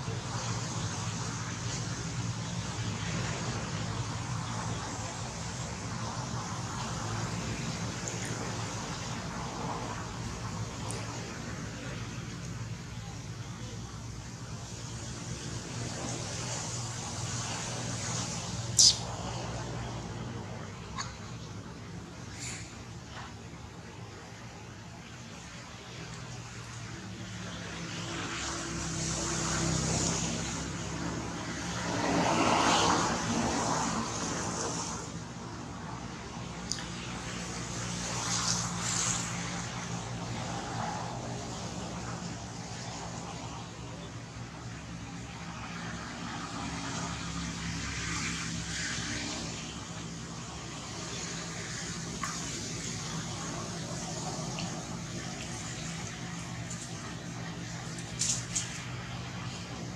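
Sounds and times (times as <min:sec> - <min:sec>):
road noise of passing vehicle: 0:00.0 - 0:59.9
vehicle engine hum: 0:00.0 - 0:59.9.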